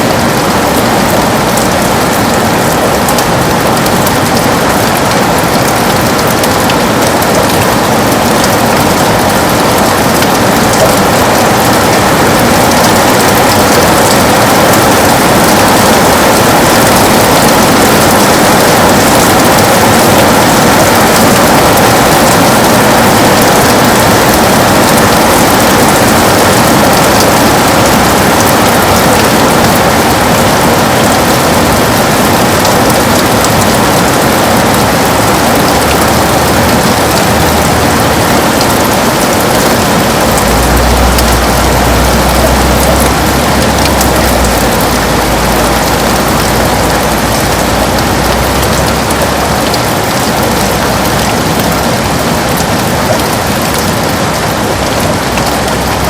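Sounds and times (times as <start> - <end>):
heavy rain on a window: 0.0 - 56.0.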